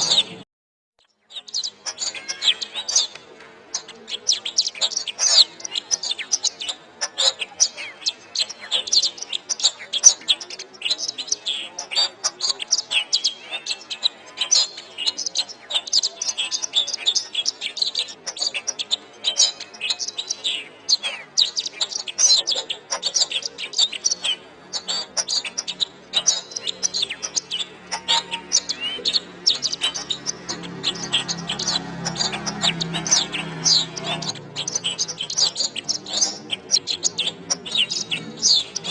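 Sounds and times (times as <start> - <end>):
canary singing trills: 0.0 - 0.4, 1.0 - 38.9.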